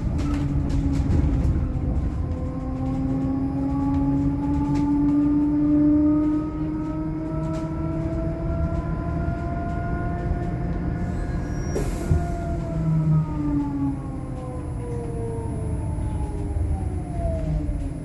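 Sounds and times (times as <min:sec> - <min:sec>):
electric bus drive whine: 0:00.0 - 0:18.0
road rumble: 0:00.0 - 0:18.0.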